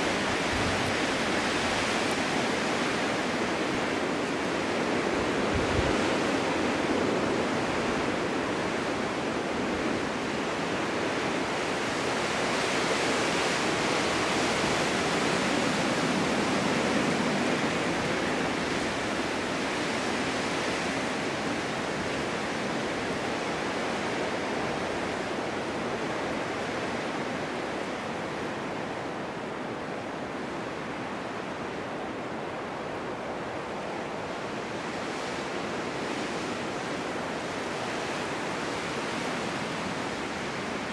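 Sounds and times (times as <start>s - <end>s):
strong gusting wind: 0.0s - 40.9s.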